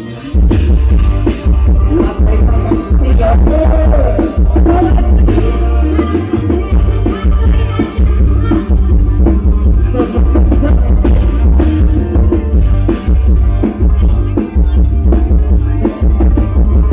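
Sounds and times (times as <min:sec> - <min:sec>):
loud pop music with heavy bass: 0:00.0 - 0:16.9.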